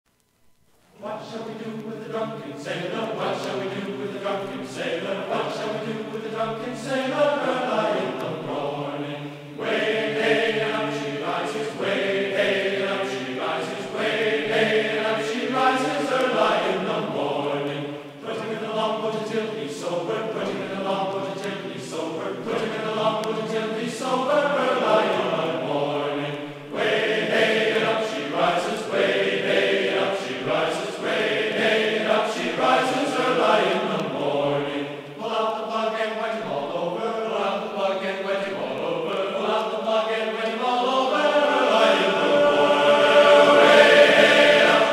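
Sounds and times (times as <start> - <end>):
choral chanting: 0.9 - 44.9.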